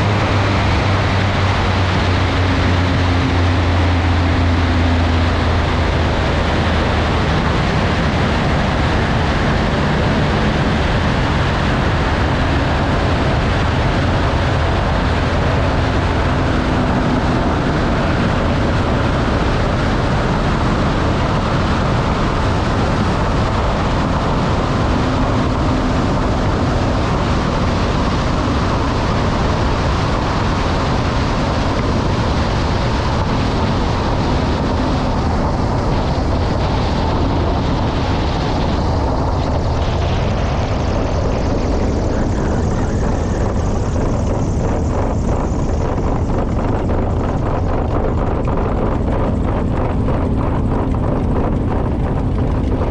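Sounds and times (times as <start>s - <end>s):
aircraft engines rumbling: 0.0s - 52.9s
low hum: 0.0s - 52.9s.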